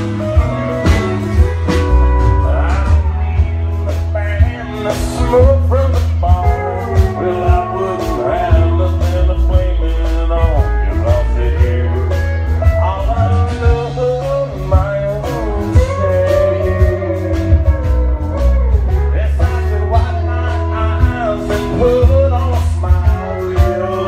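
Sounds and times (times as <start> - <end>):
country band playing: 0.0 - 24.0
person singing: 0.0 - 24.0.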